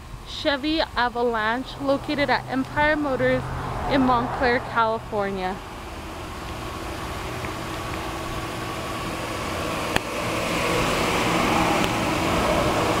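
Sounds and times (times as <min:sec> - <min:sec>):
fan-like hiss: 0:00.0 - 0:04.0, 0:05.5 - 0:13.0
car engine idling: 0:00.0 - 0:13.0.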